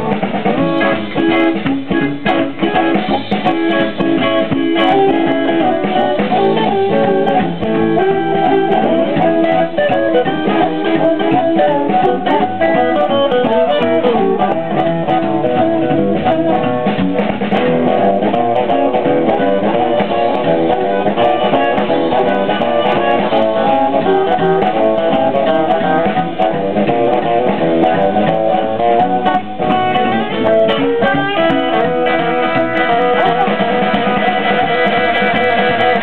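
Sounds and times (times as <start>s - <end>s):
amplified harmonica: 0.0s - 36.0s
drums: 0.0s - 36.0s
electric guitar: 0.0s - 36.0s.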